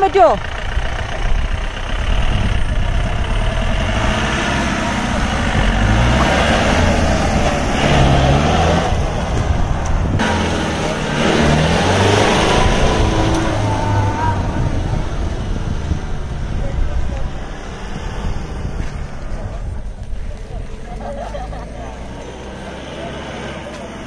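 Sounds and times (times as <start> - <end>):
jeep engine revving: 0.0 - 24.0
steady rushing noise: 0.6 - 20.9.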